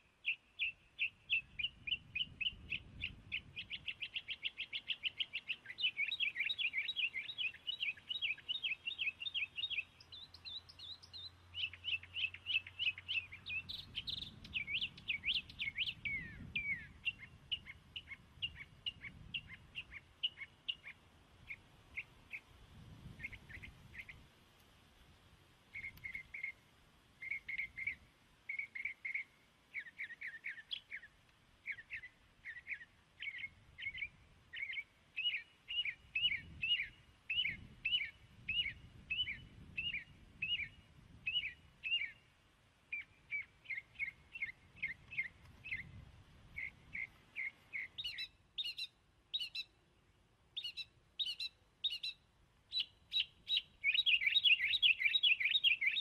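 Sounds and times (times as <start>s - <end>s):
small bird chirping: 0.0s - 24.3s, 25.7s - 26.6s, 27.2s - 42.3s, 42.9s - 49.8s, 50.6s - 56.0s.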